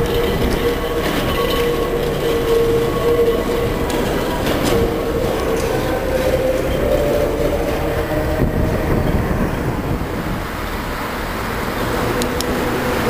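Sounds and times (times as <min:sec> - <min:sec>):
tram rumbling on rails: 0:00.0 - 0:13.0.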